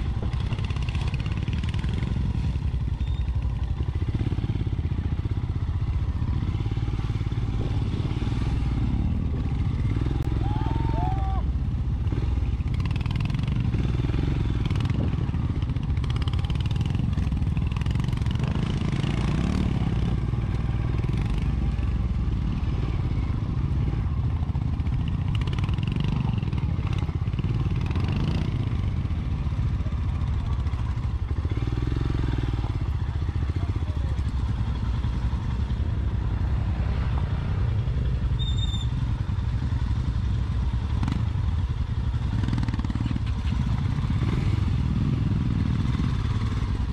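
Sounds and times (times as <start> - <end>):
motorcycle engine low rumble: 0.0 - 46.9.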